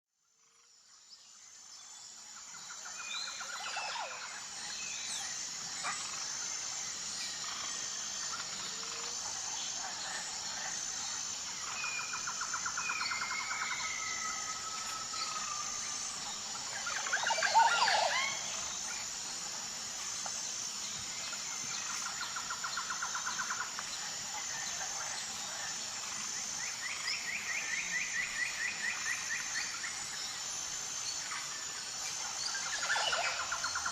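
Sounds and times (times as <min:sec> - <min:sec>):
insect chorus: 0:00.2 - 0:33.9.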